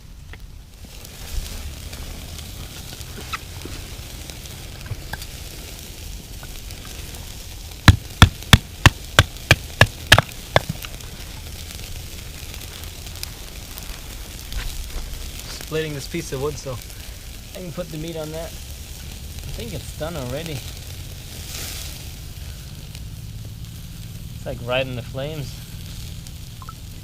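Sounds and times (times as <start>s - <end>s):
campfire crackling faintly: 0.0s - 27.0s.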